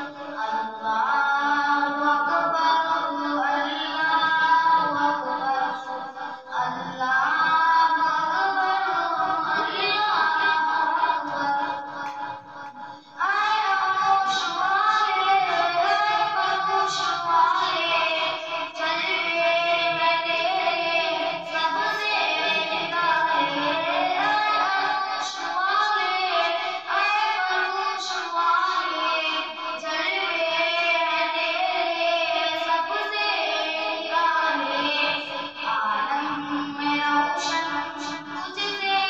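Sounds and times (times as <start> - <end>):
boy singing devotional song: 0.0 - 39.0.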